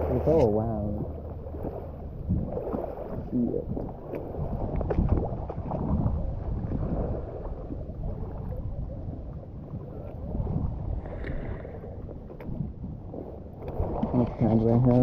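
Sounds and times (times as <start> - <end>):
water sloshing around wader: 0.0 - 15.0
wind buffeting microphone: 0.0 - 15.0.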